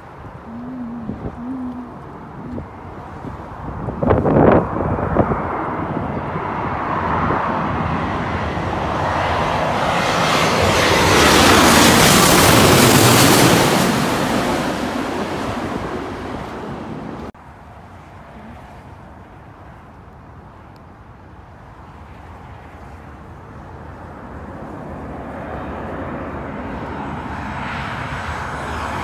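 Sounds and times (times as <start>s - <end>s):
jet engine rush overhead: 0.0s - 19.7s, 20.6s - 29.0s.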